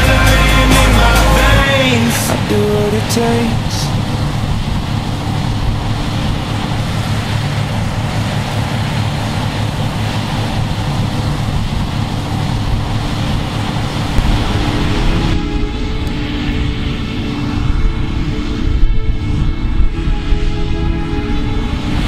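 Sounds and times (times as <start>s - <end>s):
farm machinery engine rumbling: 0.0s - 22.0s.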